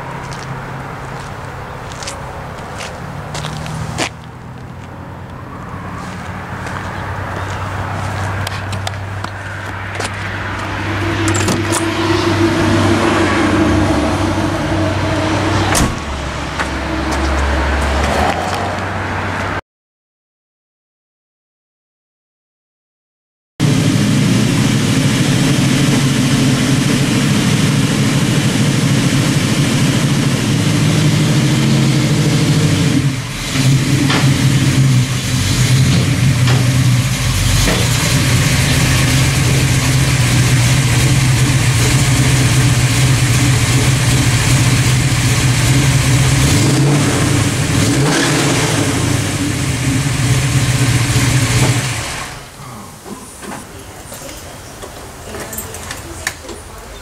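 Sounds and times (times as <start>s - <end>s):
car engine running low: 0.0s - 18.6s, 23.6s - 53.0s.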